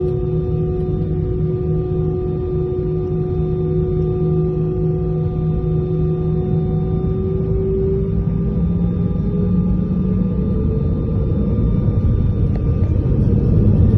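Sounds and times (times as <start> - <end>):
airliner engines humming: 0.0 - 13.9.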